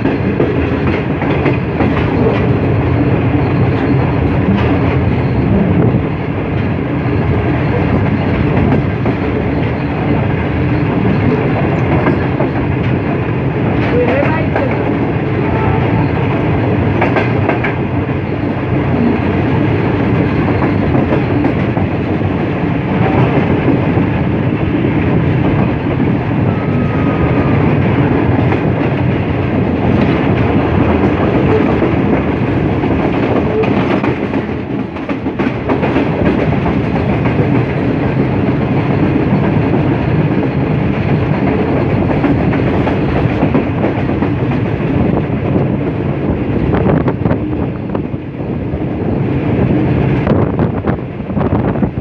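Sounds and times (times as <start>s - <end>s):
clickety-clack over rail joints: 0.0s - 52.0s
train wheels rumbling on rails: 0.0s - 52.0s.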